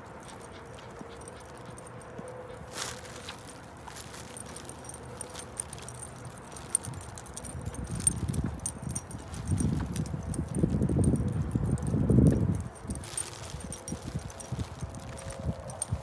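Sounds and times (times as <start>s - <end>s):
dog tag and leash clip jingling: 0.0s - 16.0s.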